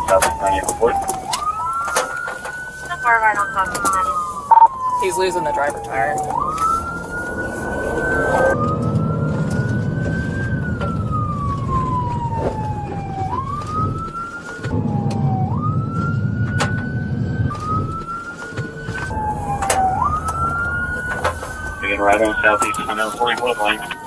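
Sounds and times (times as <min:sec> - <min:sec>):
car engine rumble: 0:00.0 - 0:24.0
police siren wailing: 0:00.0 - 0:24.0
road noise: 0:00.0 - 0:24.0.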